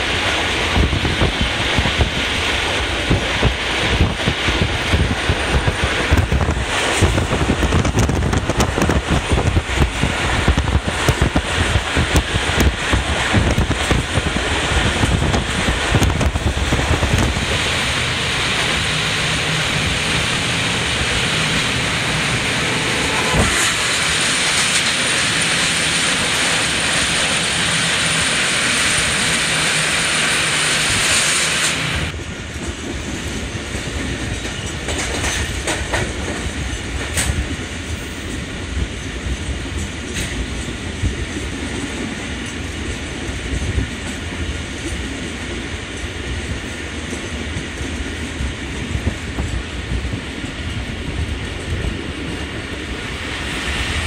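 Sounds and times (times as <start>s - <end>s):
train rumbling: 0.0s - 54.0s
wind buffeting microphone: 0.0s - 54.0s.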